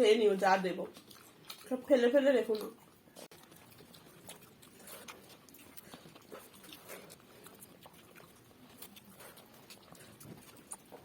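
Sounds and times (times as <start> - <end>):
people eating by hand: 0.0 - 11.0
soft chewing: 0.0 - 11.0.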